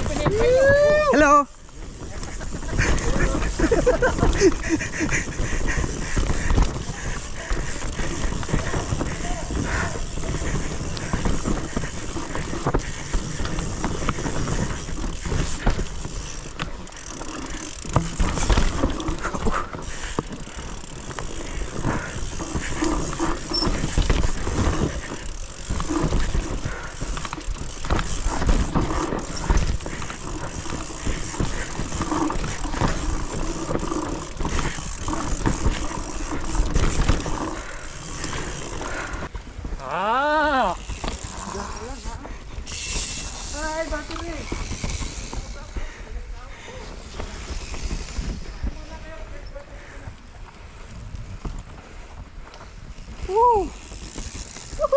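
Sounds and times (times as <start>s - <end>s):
bike rattling and knocking: 0.0s - 54.9s
bike tyres grinding over dirt: 0.0s - 54.9s.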